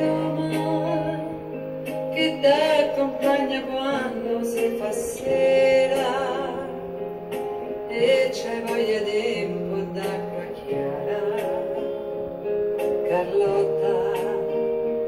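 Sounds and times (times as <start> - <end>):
woman singing with vibrato: 0.0 - 7.1, 7.9 - 12.2, 13.0 - 15.0.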